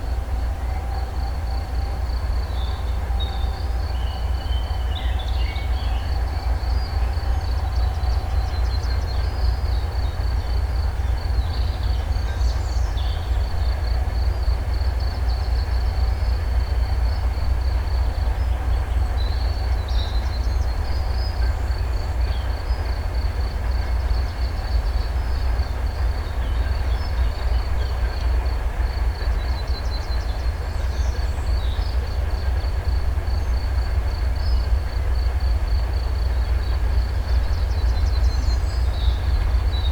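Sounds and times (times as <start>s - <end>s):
distant diesel locomotive rumble: 0.0s - 39.9s.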